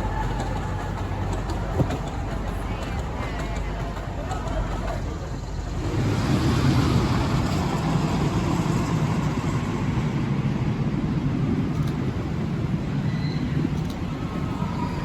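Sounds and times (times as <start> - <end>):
miniature train rumbling on track: 0.0 - 15.0.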